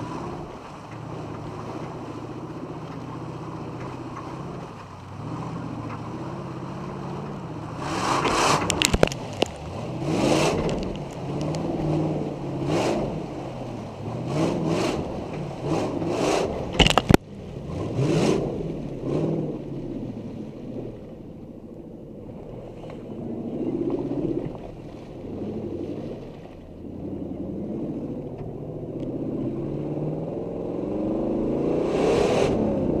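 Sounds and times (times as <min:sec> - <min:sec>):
engine revving: 0:00.0 - 0:20.4, 0:22.8 - 0:33.0.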